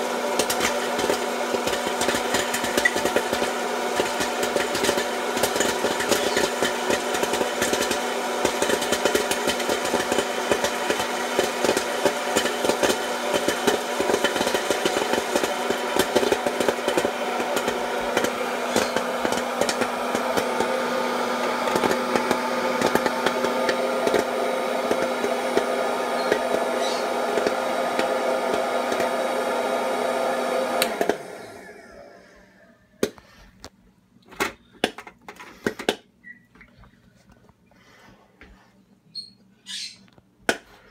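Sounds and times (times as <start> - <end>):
popcorn popping and rattling: 0.0 - 29.8, 30.7 - 31.3, 34.2 - 36.6, 40.4 - 40.9
popcorn maker fan and motor hum: 0.0 - 38.6.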